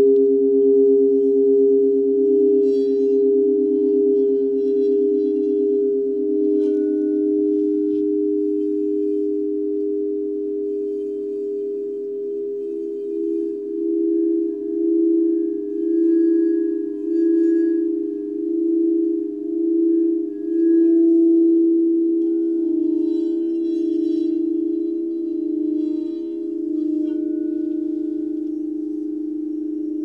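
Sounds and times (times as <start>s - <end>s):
higher ringing tones: 0.0s - 30.0s
singing bowl low hum: 0.0s - 30.0s.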